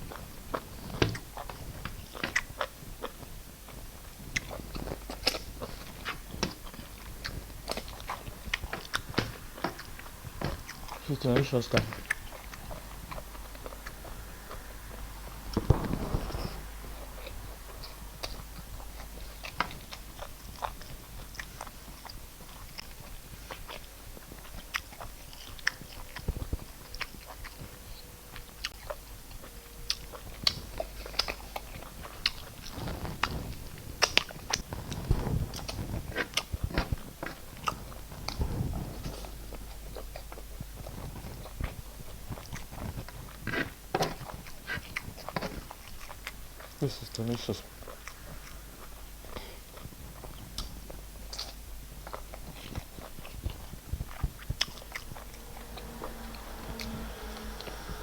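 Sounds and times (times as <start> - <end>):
person chewing and smacking: 0.0 - 14.7, 17.2 - 38.5, 39.2 - 55.4.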